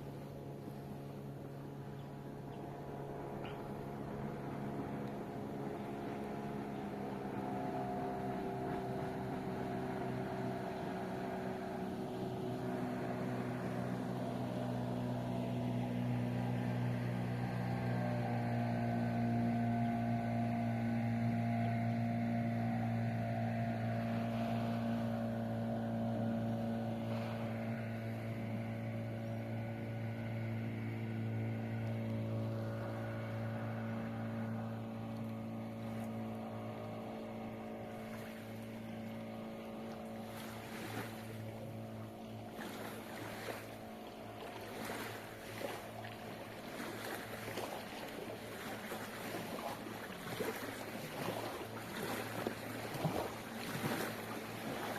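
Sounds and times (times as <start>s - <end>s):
small boat motor humming: 0.0s - 54.9s
water splashing: 0.0s - 54.9s.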